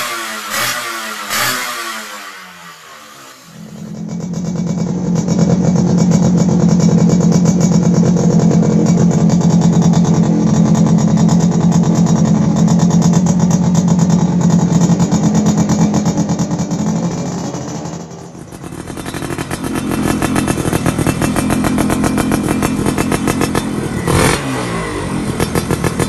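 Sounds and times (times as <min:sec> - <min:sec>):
two-stroke motorcycle exhaust popping: 0:03.6 - 0:26.0.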